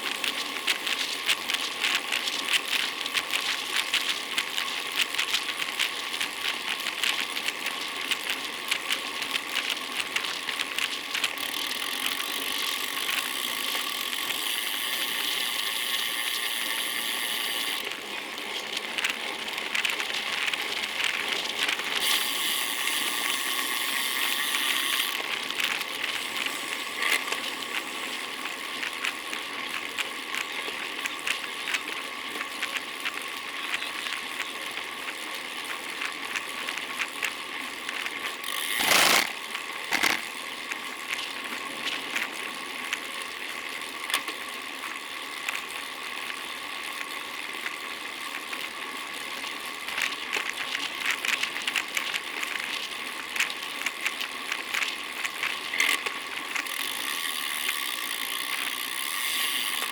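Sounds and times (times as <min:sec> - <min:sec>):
bicycle clicks and rattles: 0:00.0 - 0:59.9.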